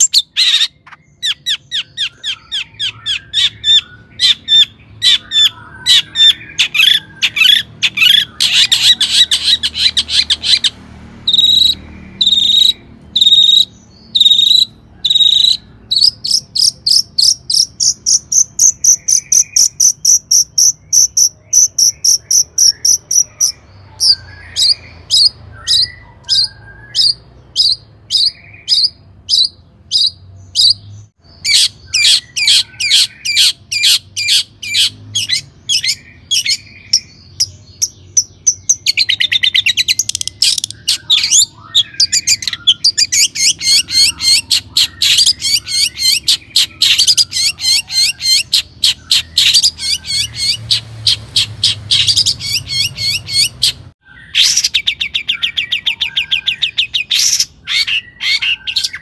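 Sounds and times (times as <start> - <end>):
shrike singing: 0.0 - 59.0.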